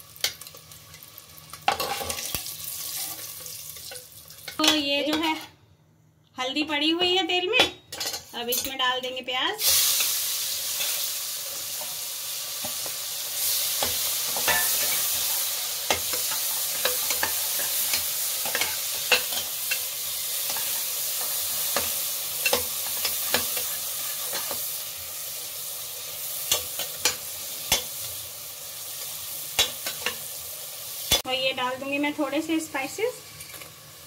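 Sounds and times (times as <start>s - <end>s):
onions sizzling in hot oil: 0.0s - 5.2s, 9.6s - 34.0s.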